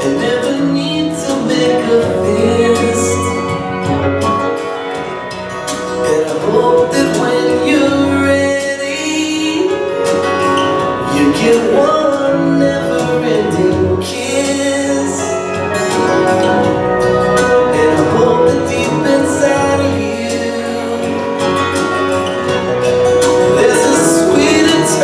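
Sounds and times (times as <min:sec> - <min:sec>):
song with singing and beat: 0:00.0 - 0:25.0.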